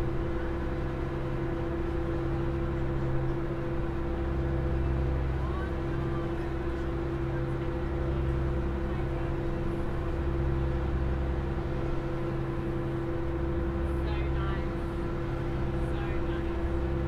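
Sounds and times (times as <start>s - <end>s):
ferry diesel engines droning: 0.0s - 17.0s.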